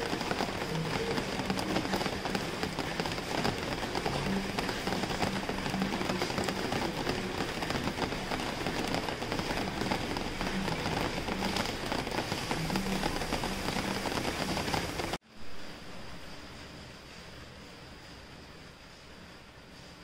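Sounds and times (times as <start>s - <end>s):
rain on a hard surface: 0.0s - 20.0s.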